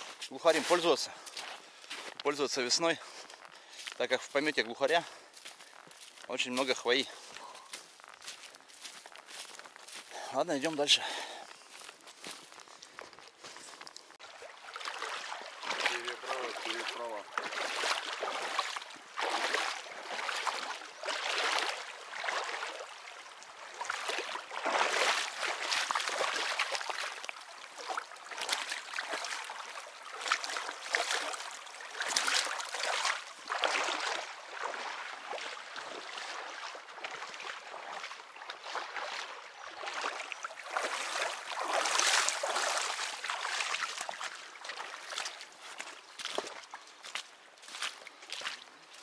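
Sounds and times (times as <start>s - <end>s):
boots sloshing through water: 0.0s - 49.0s.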